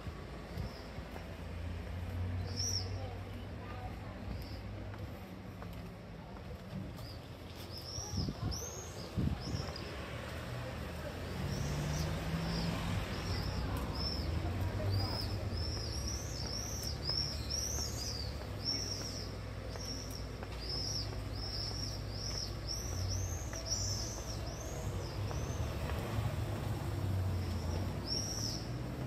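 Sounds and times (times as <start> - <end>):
small birds chirping: 0.4 - 5.2, 6.9 - 29.0.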